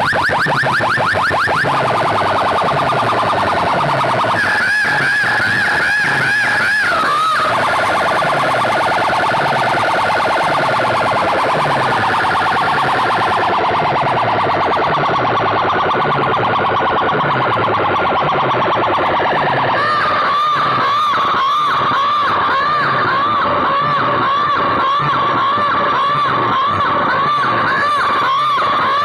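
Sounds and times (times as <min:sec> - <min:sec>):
electronic siren through loudspeakers: 0:00.0 - 0:29.0.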